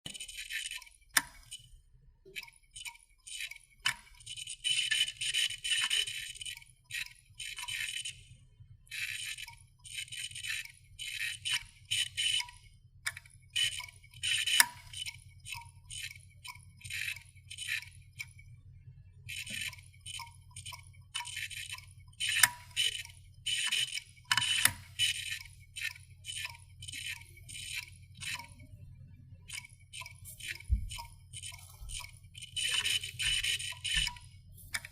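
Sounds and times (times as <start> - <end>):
steady low hum: 0.1 - 34.9
hard disk drive clicking: 2.3 - 8.2, 8.9 - 18.4, 19.3 - 28.7, 29.5 - 34.9.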